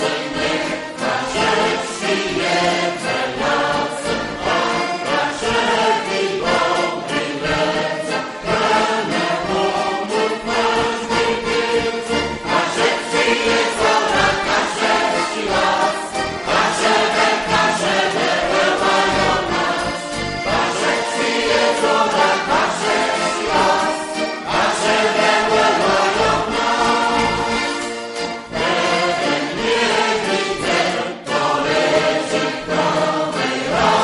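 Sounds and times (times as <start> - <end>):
choir singing a folk song: 0.0 - 34.0.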